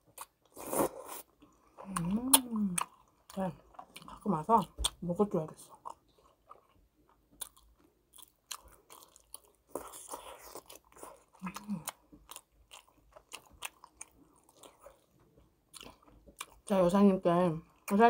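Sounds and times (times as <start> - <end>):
person chewing crunchy food: 0.0 - 5.0, 5.7 - 16.7.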